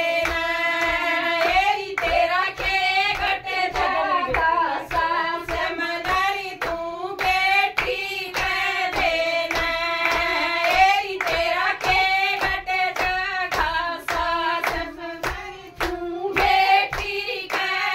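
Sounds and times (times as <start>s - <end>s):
rhythmic hand-clapping: 0.0s - 17.9s
women singing folk song: 0.0s - 17.9s.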